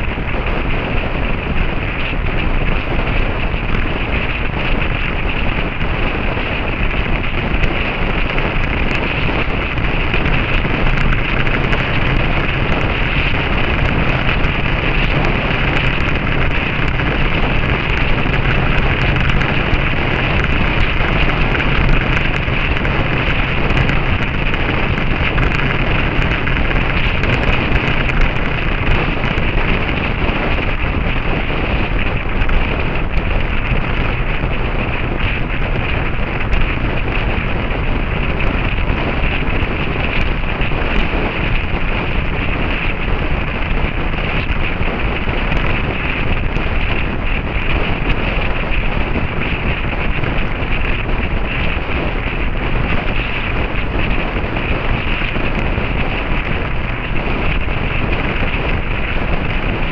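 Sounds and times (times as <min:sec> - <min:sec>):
heavy wind buffeting microphone: 0:00.0 - 0:59.9.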